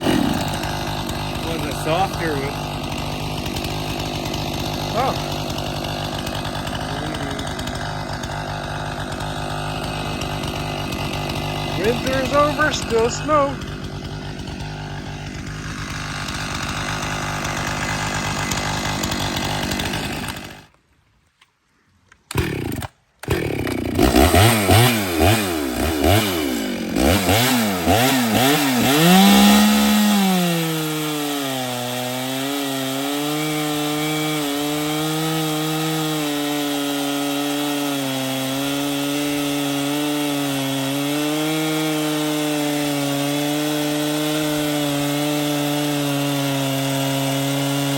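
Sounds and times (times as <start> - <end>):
chainsaw engine revving: 0.0 - 20.7, 22.3 - 47.9.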